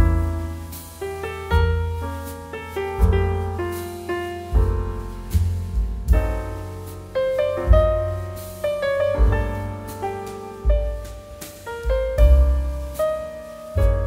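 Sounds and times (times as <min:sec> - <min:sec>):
low bass piano note: 0:00.0 - 0:14.0
piano music: 0:00.0 - 0:14.0.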